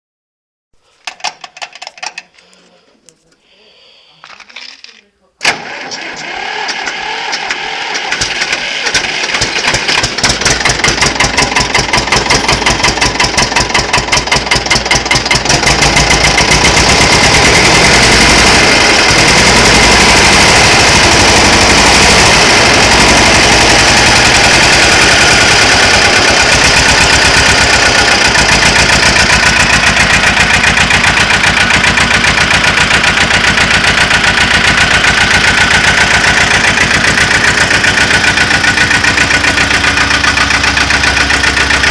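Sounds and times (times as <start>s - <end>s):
tractor diesel engine starting: 0.8s - 41.9s.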